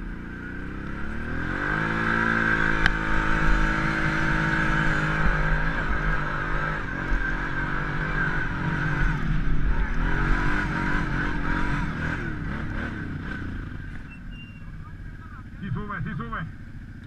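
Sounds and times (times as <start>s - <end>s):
atv engine pulling hard: 0.0s - 17.0s.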